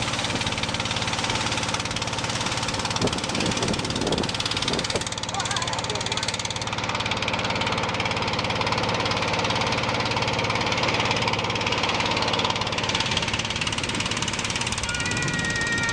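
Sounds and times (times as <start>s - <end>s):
boat engine running: 0.0s - 15.9s.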